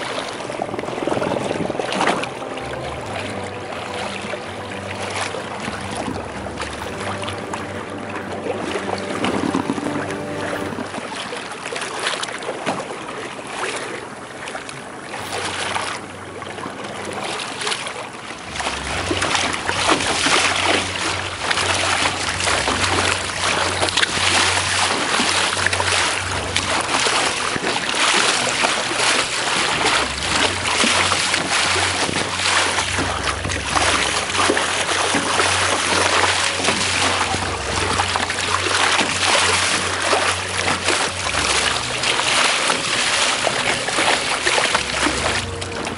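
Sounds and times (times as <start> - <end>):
wind buffeting microphone: 0.0 - 11.8, 18.2 - 45.9
water rushing along hull: 0.0 - 45.9.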